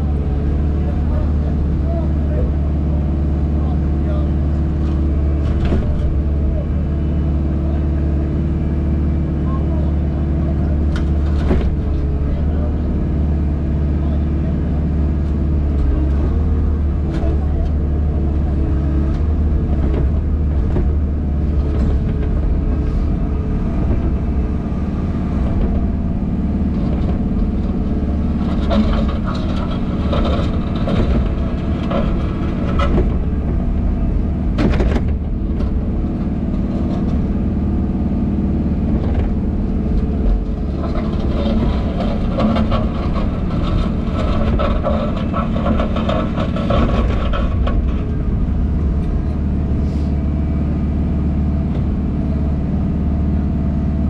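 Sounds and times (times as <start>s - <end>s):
diesel engine running: 0.0s - 54.0s
hydraulic digging arm working: 0.0s - 54.0s.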